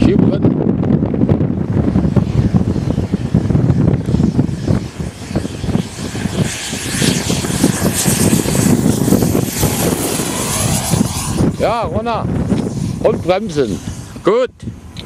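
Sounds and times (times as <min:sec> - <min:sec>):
model jet turbine whine: 0:00.0 - 0:15.0
wind noise on microphone: 0:00.0 - 0:15.0.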